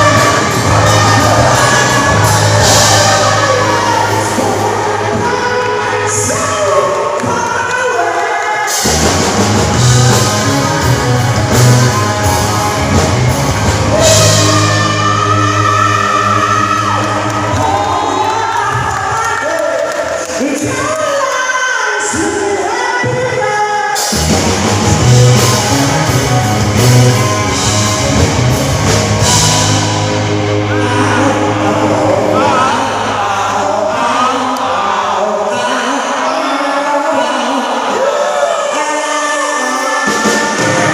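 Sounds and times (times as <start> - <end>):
loud rock music: 0.0 - 19.0, 22.0 - 36.3, 37.3 - 40.9
person singing: 0.0 - 24.3, 29.2 - 40.9.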